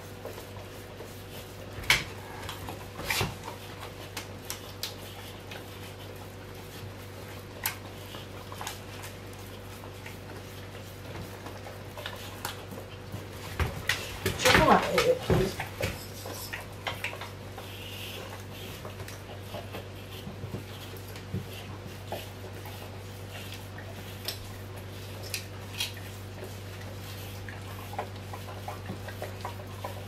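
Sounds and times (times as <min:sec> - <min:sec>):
puppy licking: 0:03.3 - 0:30.0.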